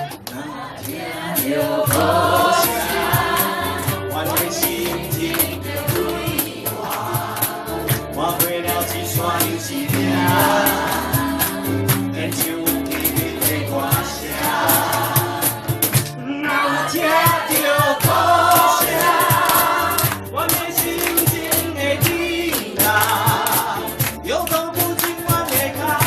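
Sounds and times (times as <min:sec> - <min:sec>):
group singing in chorus: 0:00.0 - 0:26.0
ukulele: 0:00.0 - 0:26.0
steady beat: 0:01.0 - 0:16.2, 0:17.0 - 0:26.0
bass line: 0:01.7 - 0:16.4, 0:17.2 - 0:26.0.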